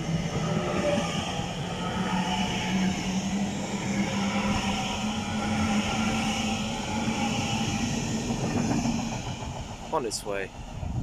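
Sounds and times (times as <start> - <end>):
train hum rising in pitch: 0.0 - 11.0
train rumble: 0.0 - 11.0.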